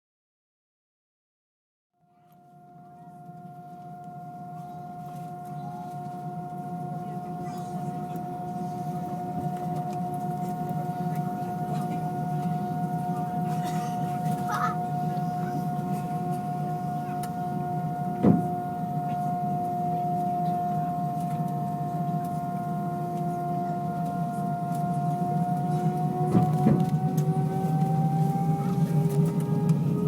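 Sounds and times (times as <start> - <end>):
engine whine: 2.2 - 30.0
airplane cabin rumble: 2.4 - 30.0.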